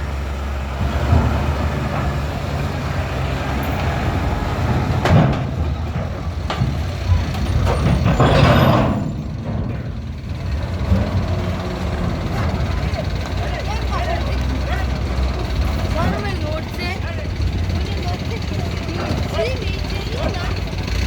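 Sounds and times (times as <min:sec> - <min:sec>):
truck diesel engine at low revs: 0:00.0 - 0:21.0.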